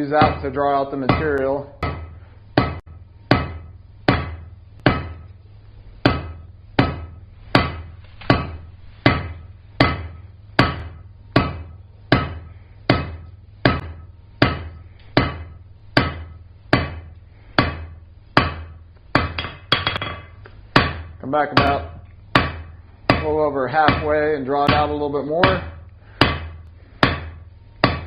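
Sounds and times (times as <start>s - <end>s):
hammer striking steel on anvil: 0.0s - 5.4s, 6.0s - 28.0s.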